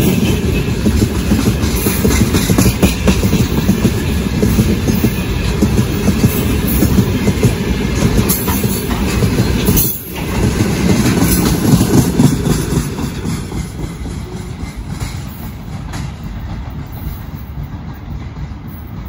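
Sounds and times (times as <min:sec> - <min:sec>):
freight train rumbling past: 0:00.0 - 0:19.0
train wheel clatter: 0:00.0 - 0:19.0.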